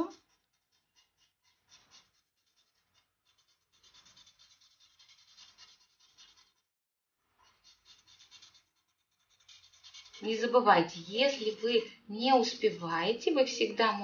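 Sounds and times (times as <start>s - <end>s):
felt-tip marker scratching on paper: 0.0s - 6.7s, 7.4s - 13.2s.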